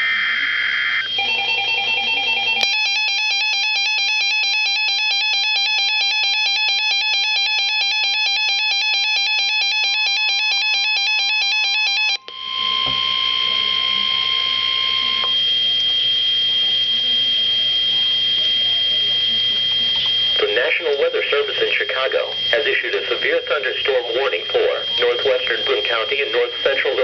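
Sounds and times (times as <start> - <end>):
fast electronic alarm beeps: 0.0 - 27.0
steady warning tone: 0.0 - 27.0.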